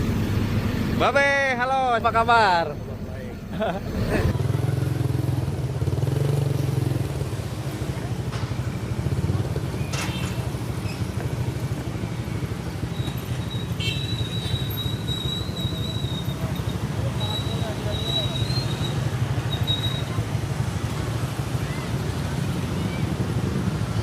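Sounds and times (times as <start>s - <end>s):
road and wind noise: 0.0s - 24.0s
motorcycle engine running: 4.1s - 24.0s.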